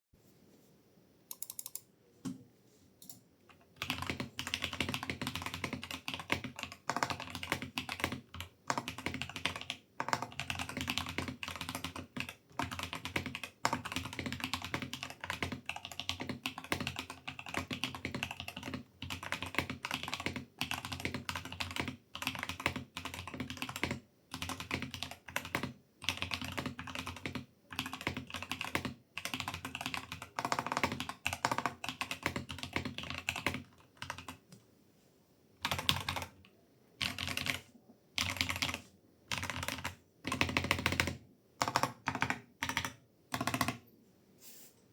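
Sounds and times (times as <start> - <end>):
mechanical keyboard typing: 1.3 - 1.9, 3.0 - 34.4, 35.6 - 43.8.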